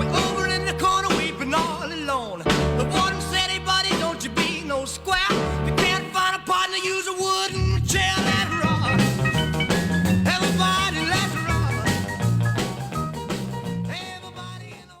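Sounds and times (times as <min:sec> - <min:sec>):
background music with bass line: 0:00.0 - 0:06.4, 0:07.5 - 0:15.0.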